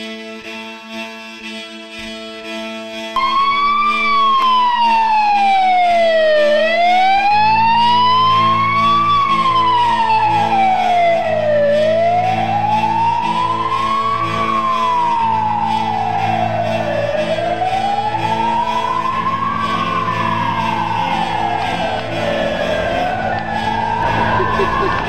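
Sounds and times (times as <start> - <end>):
background music: 0.0 - 25.0
ambulance siren wailing: 3.2 - 25.0.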